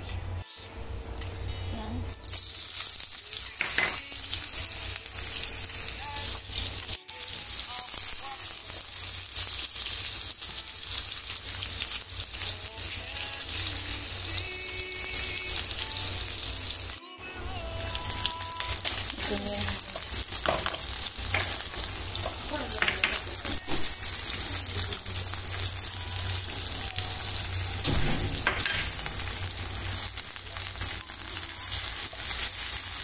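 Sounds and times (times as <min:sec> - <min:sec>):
onion sizzling in hot oil: 0:02.1 - 0:17.0, 0:17.6 - 0:33.0.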